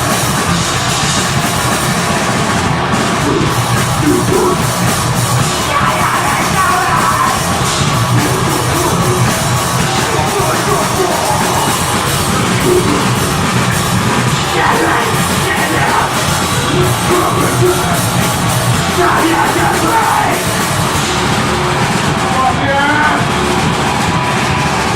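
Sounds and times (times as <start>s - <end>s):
bass guitar: 0.0s - 24.9s
distorted guitars: 0.0s - 24.9s
fast drums: 0.0s - 24.9s
harsh shouted vocals: 0.0s - 24.9s.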